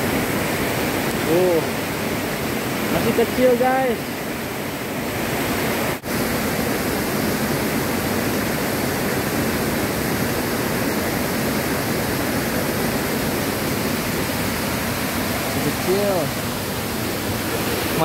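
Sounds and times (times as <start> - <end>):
flowing river water: 0.0 - 18.0.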